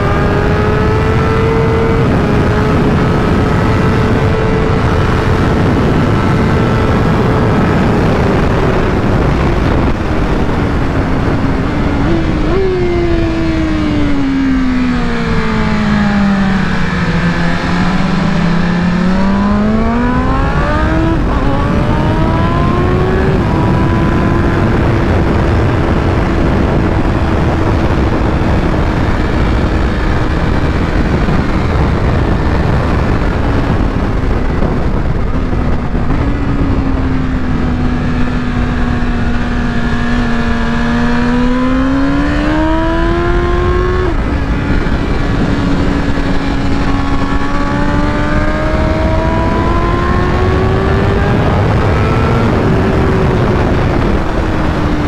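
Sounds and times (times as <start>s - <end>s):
motorcycle engine revving: 0.0s - 55.0s
rushing wind: 0.0s - 55.0s.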